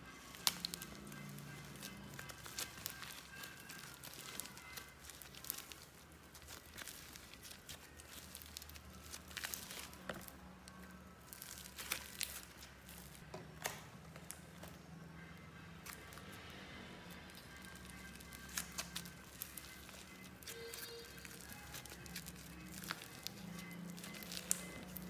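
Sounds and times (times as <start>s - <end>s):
slime squelching and crackling: 0.1s - 14.8s, 17.1s - 25.0s.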